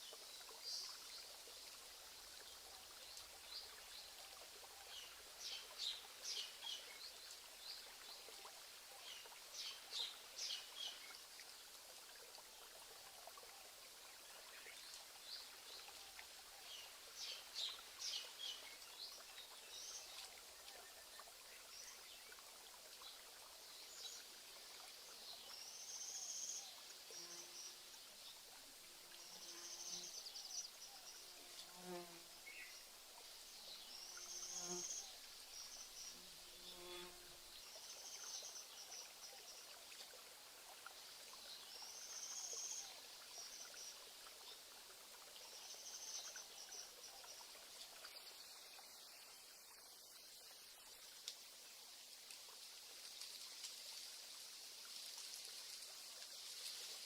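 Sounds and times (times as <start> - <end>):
soft steady hiss: 0.0 - 57.0.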